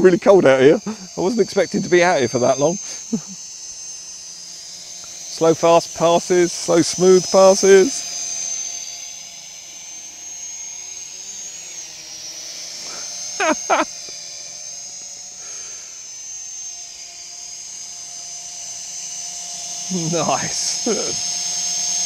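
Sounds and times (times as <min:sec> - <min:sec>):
toy drone propellers whining: 0:00.0 - 0:22.0.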